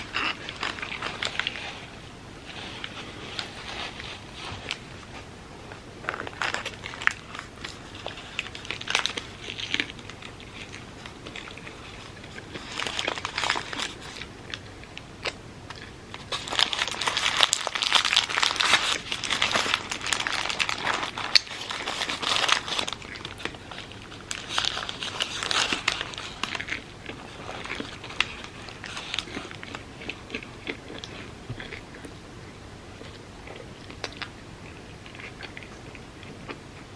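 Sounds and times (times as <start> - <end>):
biting and chewing: 0.0 - 36.9.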